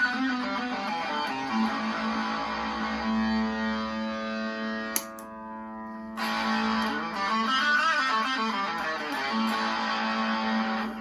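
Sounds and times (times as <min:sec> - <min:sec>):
distorted electric guitar: 0:00.0 - 0:11.0.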